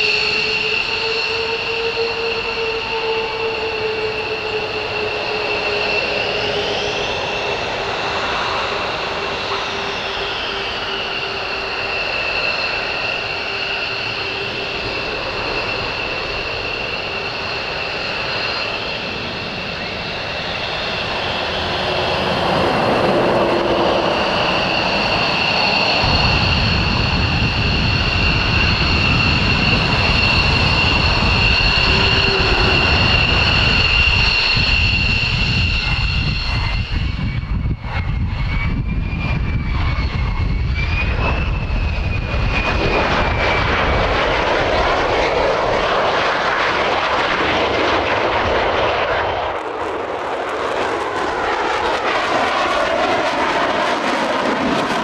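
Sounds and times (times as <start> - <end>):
jet engine turbine whine: 0.0 - 55.0
jet rumble: 0.0 - 55.0
jet rumble with wavering whine: 0.0 - 55.0.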